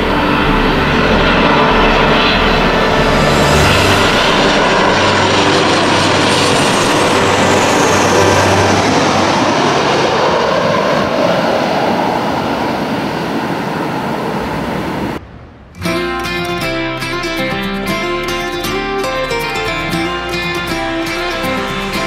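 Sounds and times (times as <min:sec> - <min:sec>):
jet engines roaring overhead: 0:00.0 - 0:16.1, 0:16.7 - 0:22.0.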